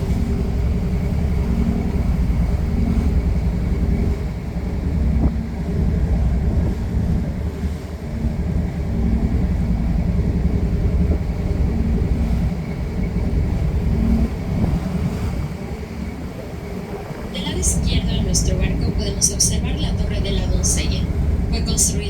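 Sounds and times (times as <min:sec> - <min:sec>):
boat engine rumbling: 0:00.0 - 0:22.0.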